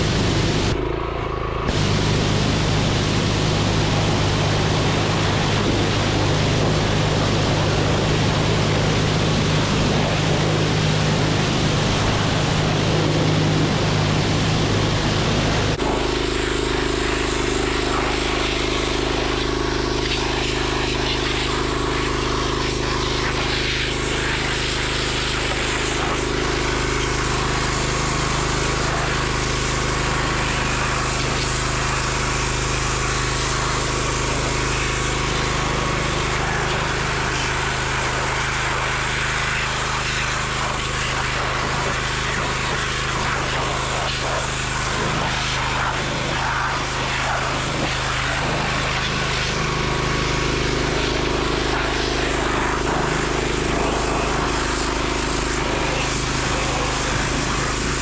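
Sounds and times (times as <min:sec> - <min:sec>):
water jet hissing: 0:00.0 - 0:00.8, 0:01.7 - 0:58.0
pressure washer motor humming: 0:00.0 - 0:58.0.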